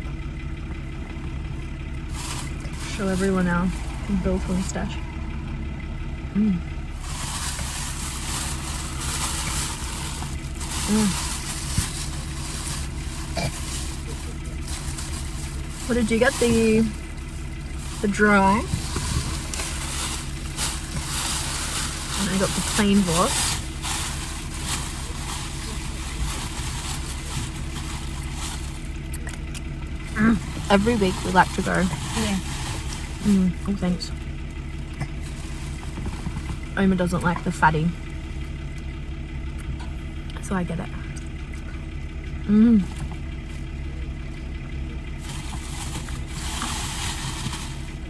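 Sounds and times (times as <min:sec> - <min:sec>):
low engine hum: 0:00.0 - 0:48.0.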